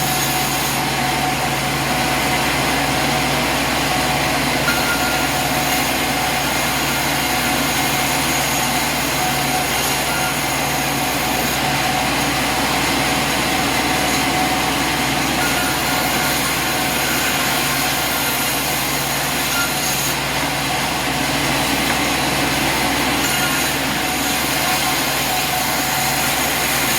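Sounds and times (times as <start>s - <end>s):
sawmill machinery humming: 0.0s - 26.9s.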